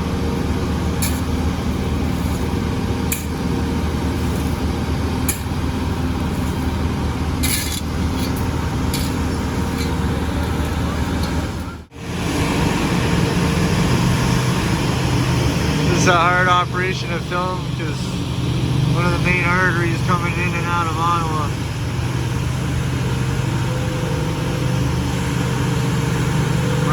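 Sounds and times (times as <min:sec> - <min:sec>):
heavy machinery engines: 0:00.0 - 0:26.9.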